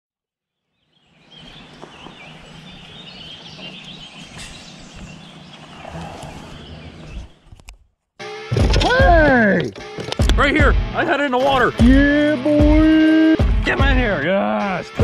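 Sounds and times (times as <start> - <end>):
birds chirping: 0.6 - 15.0.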